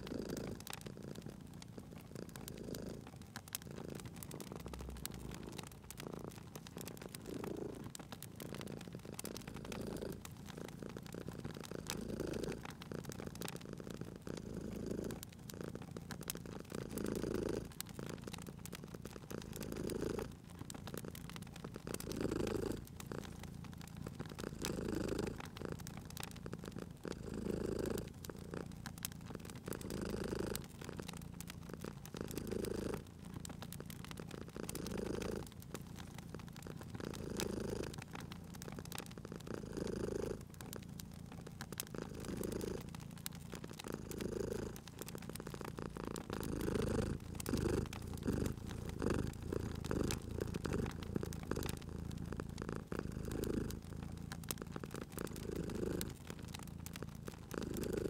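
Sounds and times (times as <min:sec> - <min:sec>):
cat purring: 0:00.0 - 0:58.0
wood fire crackling: 0:00.0 - 0:58.0.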